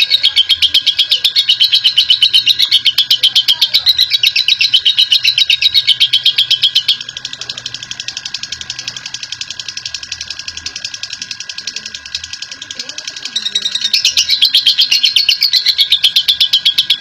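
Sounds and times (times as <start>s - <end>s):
lovebird chattering: 0.0s - 17.0s.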